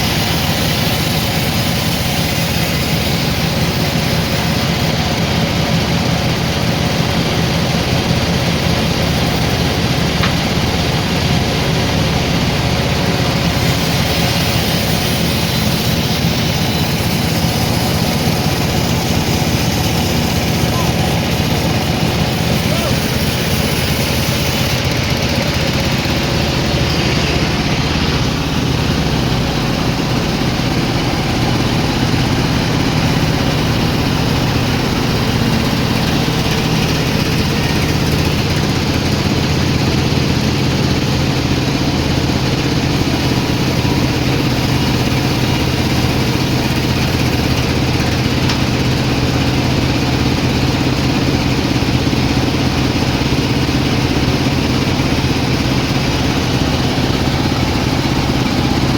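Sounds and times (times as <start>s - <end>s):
sawmill engine droning: 0.0s - 58.9s.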